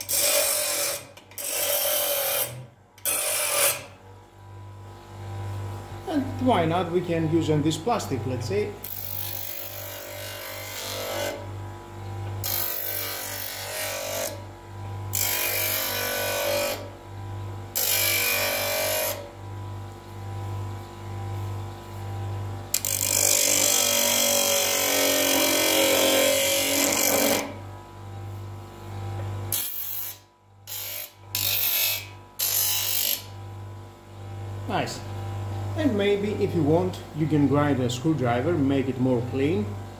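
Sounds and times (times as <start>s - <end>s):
bench grinder motor hum: 0.0s - 37.7s.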